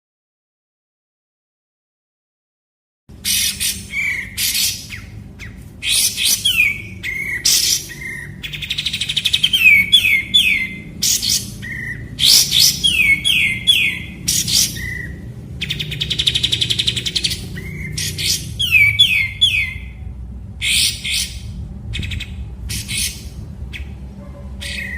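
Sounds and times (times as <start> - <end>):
bird singing: 3.1 - 24.9.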